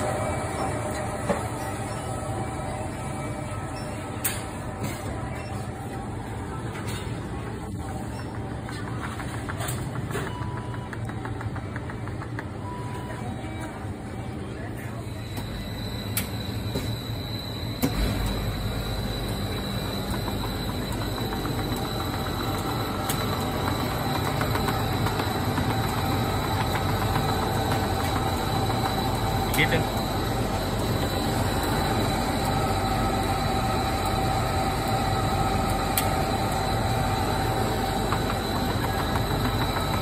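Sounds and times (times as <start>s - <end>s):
frozen-drink machine humming: 0.0s - 40.0s.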